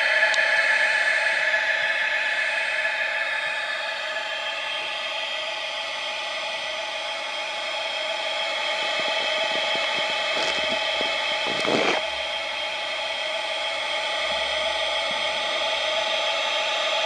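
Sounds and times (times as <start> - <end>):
mechanical whir with high hum: 0.0 - 17.0.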